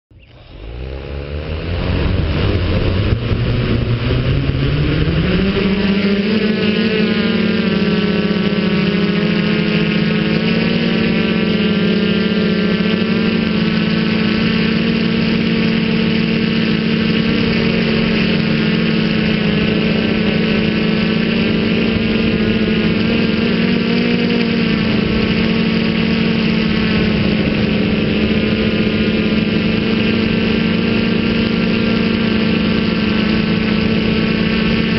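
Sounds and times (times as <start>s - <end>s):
drone motors whirring: 0.1s - 34.9s.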